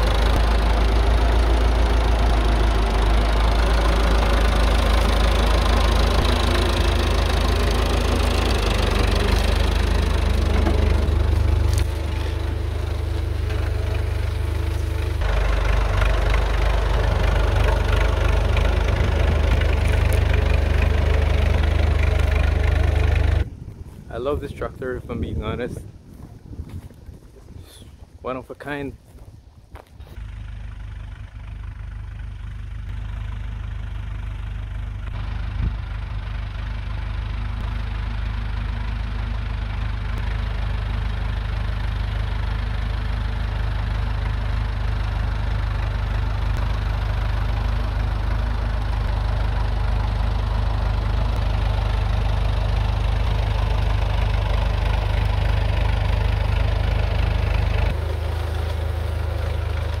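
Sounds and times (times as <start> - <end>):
tractor engine running under load: 0.0 - 60.0.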